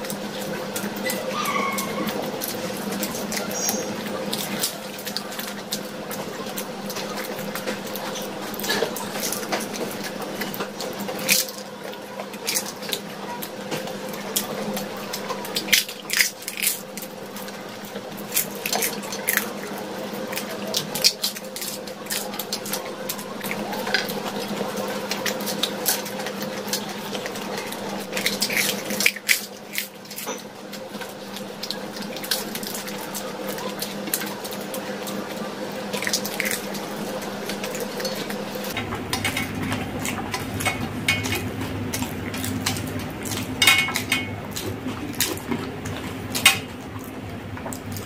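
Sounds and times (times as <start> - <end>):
crunching and wet chewing: 0.0 - 48.0.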